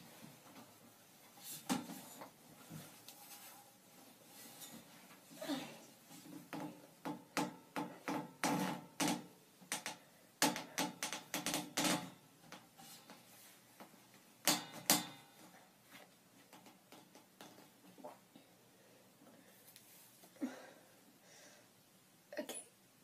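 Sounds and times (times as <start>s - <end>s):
knocks and rustles of movement: 0.0s - 18.6s.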